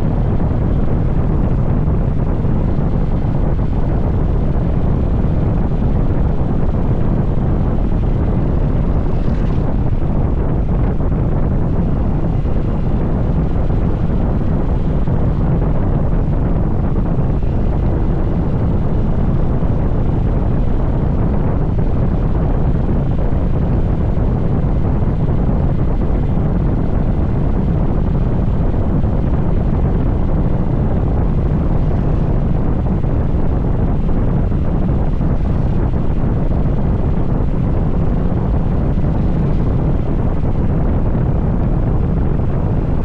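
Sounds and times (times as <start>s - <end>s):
motorcycle engine and road noise: 0.0s - 43.0s
wind buffeting microphone: 0.0s - 43.0s.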